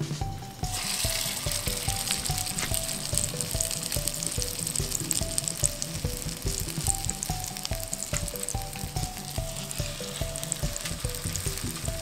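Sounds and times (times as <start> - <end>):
background music with steady beat: 0.0 - 12.0
patty sizzling in hot oil: 0.6 - 12.0.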